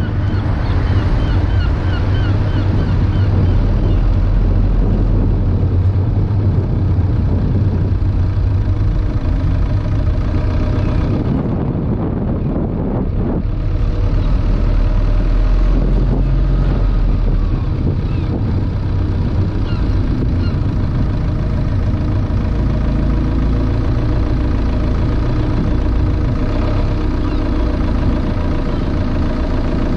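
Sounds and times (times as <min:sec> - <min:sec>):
car engine rumble: 0:00.0 - 0:29.9
road noise: 0:00.0 - 0:29.9
wind noise on microphone: 0:00.0 - 0:29.9.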